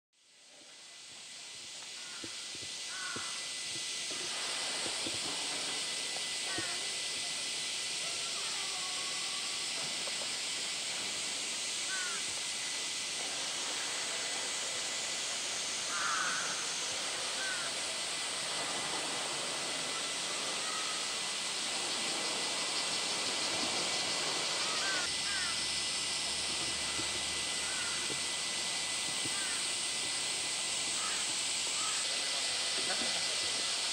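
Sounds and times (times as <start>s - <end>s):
cicada chorus: 0.2s - 33.9s
outdoor ambient hiss: 0.2s - 33.9s.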